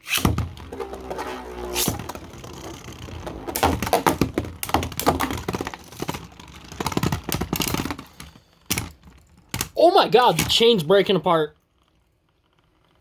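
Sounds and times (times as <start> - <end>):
spinning tops whirring: 0.0 - 11.2.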